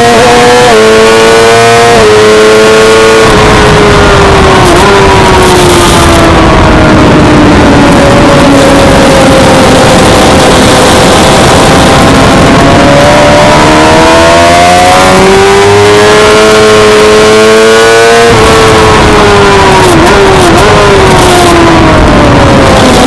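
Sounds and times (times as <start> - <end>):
heavy wind noise: 0.0 - 23.0
motorcycle engine revving: 0.0 - 23.0.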